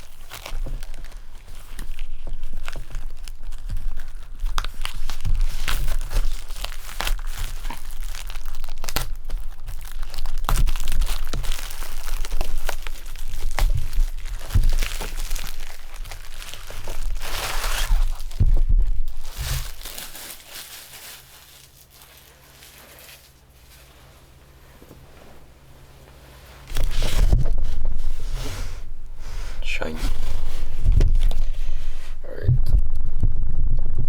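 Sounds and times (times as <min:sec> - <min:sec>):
plastic wrapping crinkling and tearing: 0:00.0 - 0:24.1, 0:26.6 - 0:32.2.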